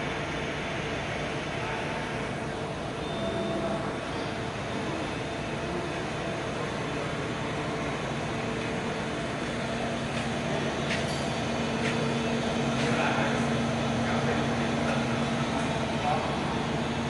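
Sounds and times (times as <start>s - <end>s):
machining center mechanical hum: 0.0s - 17.0s.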